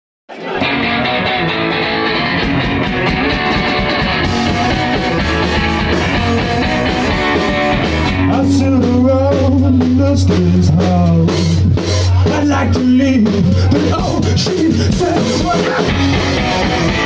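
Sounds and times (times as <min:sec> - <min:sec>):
electric guitar: 0:00.4 - 0:17.0
drum kit: 0:00.6 - 0:17.0.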